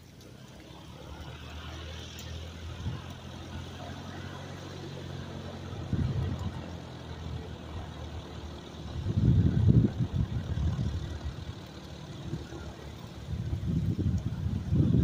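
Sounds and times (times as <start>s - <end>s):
distant biplane engines droning: 0.0s - 15.0s
low buffets: 2.3s - 15.0s.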